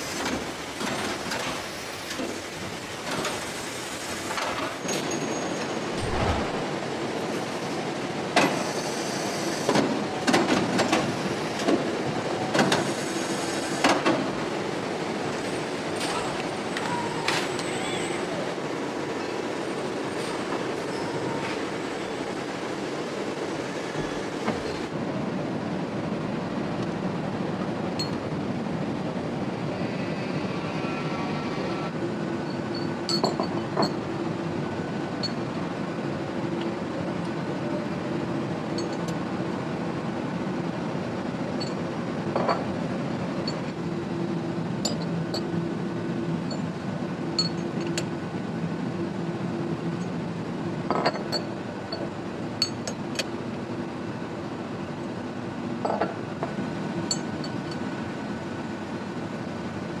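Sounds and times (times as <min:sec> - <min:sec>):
factory machinery hum: 0:00.0 - 1:00.0.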